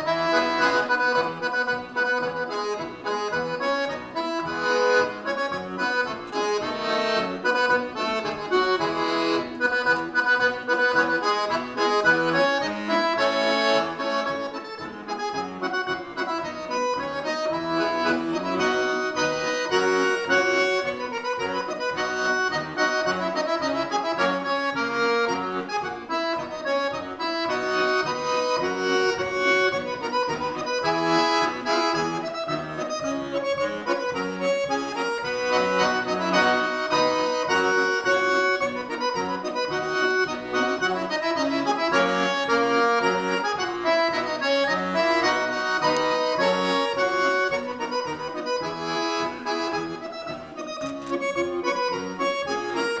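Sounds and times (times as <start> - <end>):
button accordion playing polka: 0.0 - 53.0.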